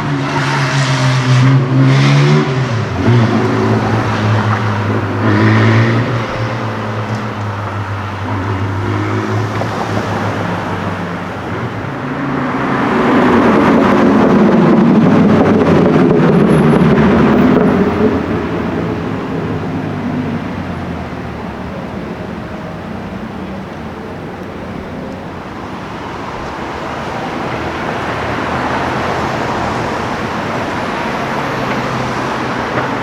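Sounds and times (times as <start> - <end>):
car engine humming: 0.0 - 33.0
car passing by: 0.0 - 33.0.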